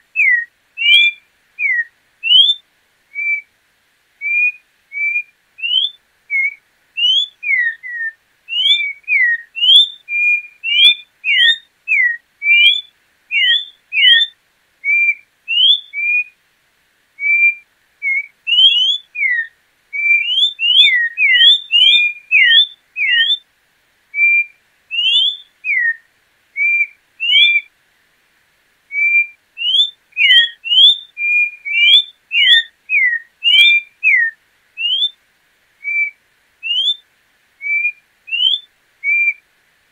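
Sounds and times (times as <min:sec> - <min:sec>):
bird singing whistled notes: 0:00.0 - 0:03.5, 0:04.2 - 0:16.4, 0:17.2 - 0:23.4, 0:24.1 - 0:27.7, 0:28.9 - 0:35.2, 0:35.8 - 0:37.0, 0:37.6 - 0:39.4.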